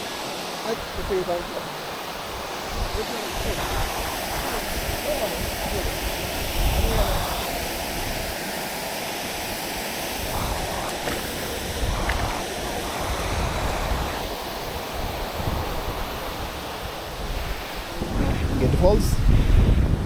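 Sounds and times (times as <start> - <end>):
waterfall rushing: 0.0 - 20.0
wind buffeting microphone: 0.0 - 20.0.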